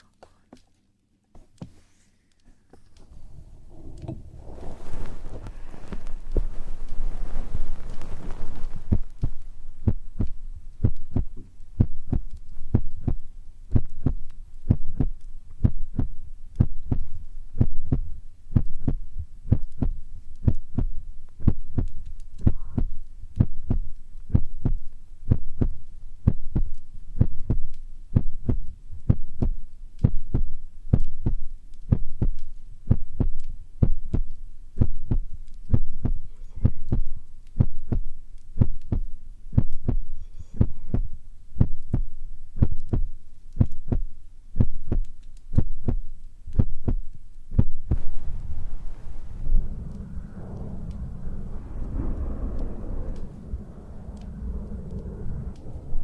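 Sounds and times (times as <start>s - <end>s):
soft heartbeat thumps: 3.0s - 56.0s.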